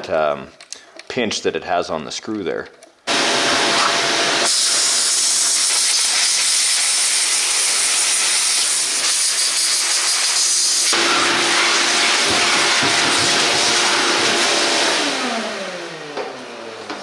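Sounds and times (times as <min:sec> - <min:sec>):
shop vacuum sucking air: 0:03.1 - 0:17.0.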